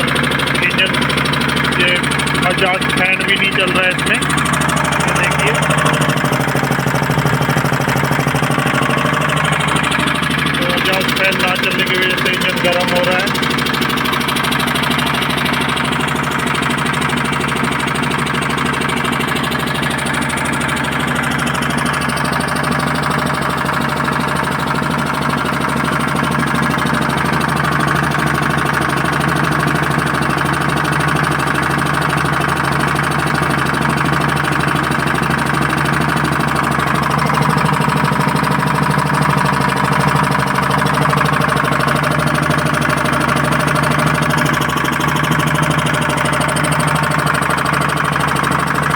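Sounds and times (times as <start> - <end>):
generator engine running: 0.0 - 48.9.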